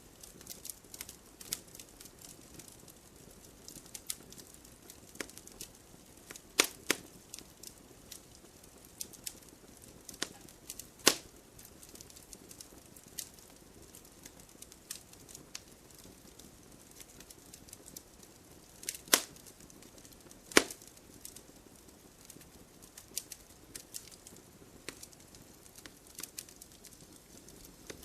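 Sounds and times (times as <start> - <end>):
faint hiss: 0.0 - 28.0
firewood crackling: 0.0 - 28.0.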